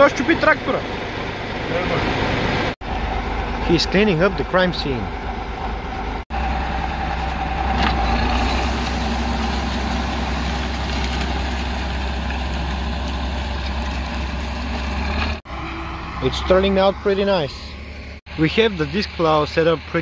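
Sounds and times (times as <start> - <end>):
diesel tractor engine under load: 0.0 - 20.0.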